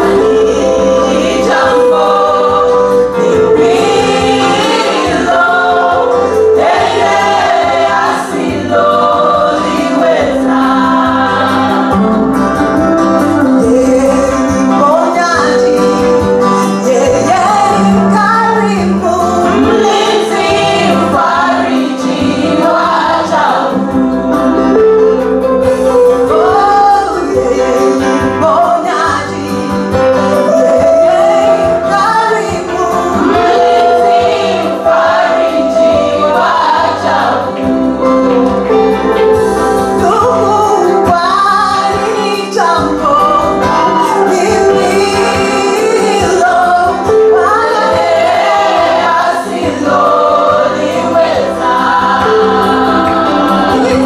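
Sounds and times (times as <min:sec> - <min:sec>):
women singing in harmony: 0:00.0 - 0:38.4, 0:39.3 - 0:54.0.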